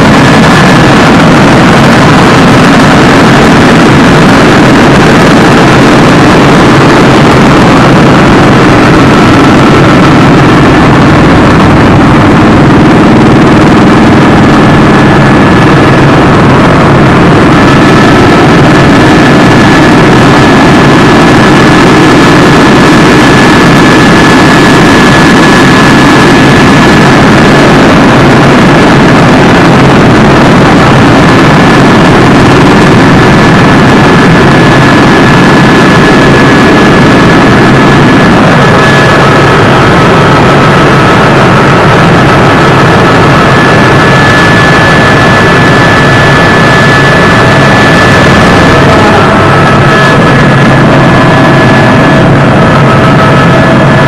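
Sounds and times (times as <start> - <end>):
helicopter engine and rotor noise: 0.0 - 54.0
high turbine whine: 0.0 - 54.0.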